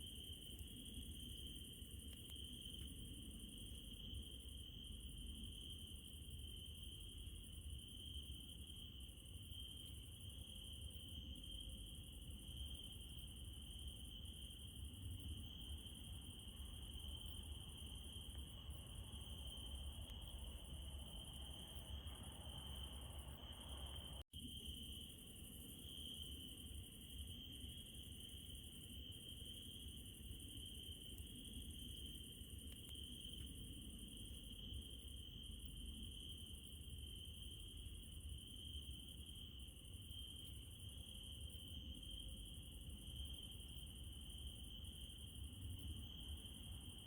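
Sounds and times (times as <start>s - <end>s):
crickets trilling: 0.0s - 47.0s.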